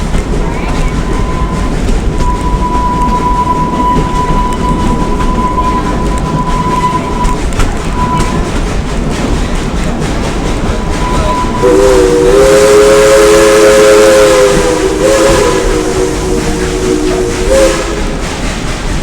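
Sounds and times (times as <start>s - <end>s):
train rumbling along track: 0.0s - 19.0s
steam locomotive chime whistle: 0.6s - 8.6s, 10.7s - 18.2s.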